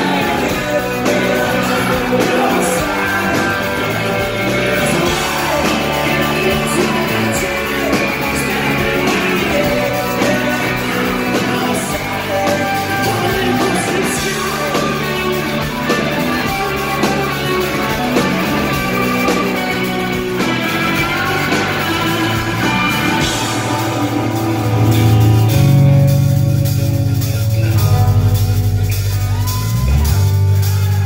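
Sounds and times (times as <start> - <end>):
drums: 0.0 - 31.0
electric guitar: 0.0 - 31.0
rock band playing live: 0.0 - 31.0.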